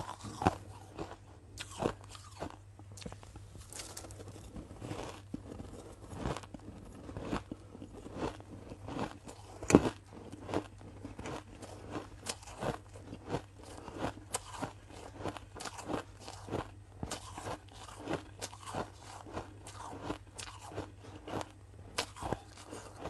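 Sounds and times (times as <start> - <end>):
ice being chewed: 0.0 - 23.0.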